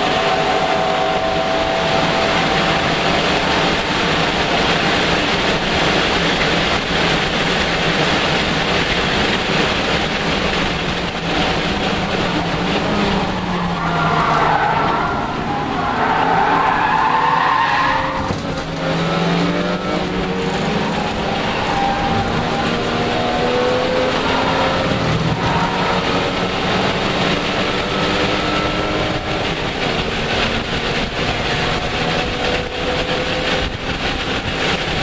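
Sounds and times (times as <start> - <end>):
race car engine under load: 0.0 - 35.0
road and wind noise: 0.0 - 35.0.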